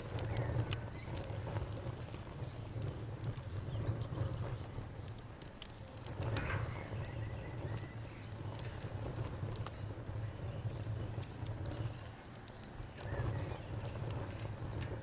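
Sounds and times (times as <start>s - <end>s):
campfire crackling and popping: 0.0s - 15.0s
crickets chirping: 0.0s - 15.0s.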